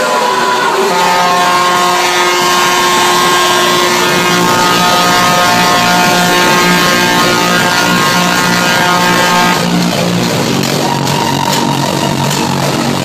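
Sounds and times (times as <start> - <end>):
electronic dance music: 0.0 - 13.0.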